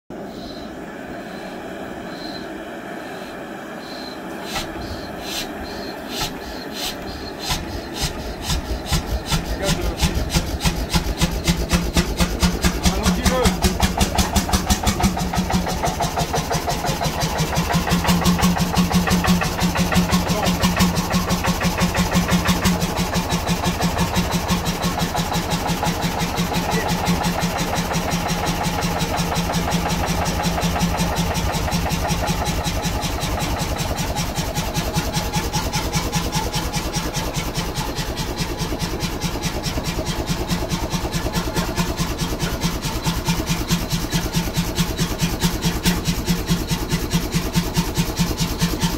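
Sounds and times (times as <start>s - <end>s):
single-cylinder engine firing: 4.5s - 48.9s.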